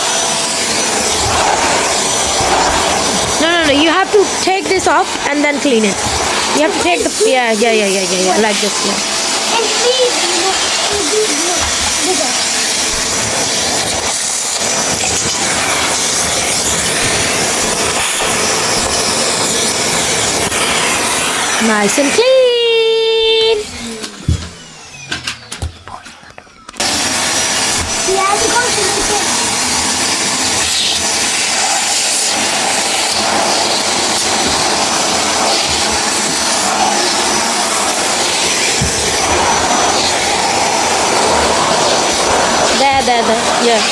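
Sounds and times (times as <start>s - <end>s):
vacuum cleaner hiss: 0.0s - 25.5s, 26.8s - 43.9s.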